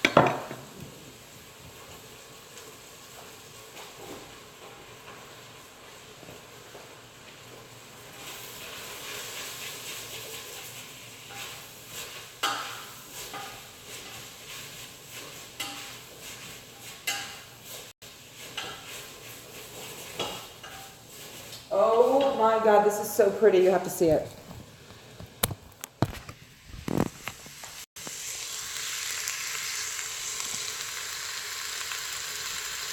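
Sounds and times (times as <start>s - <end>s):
food sizzling in a hot pan: 0.0s - 23.7s, 26.4s - 32.9s.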